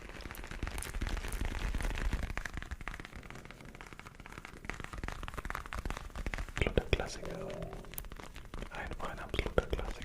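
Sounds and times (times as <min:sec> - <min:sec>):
close crackling and scratching: 0:00.0 - 0:10.0.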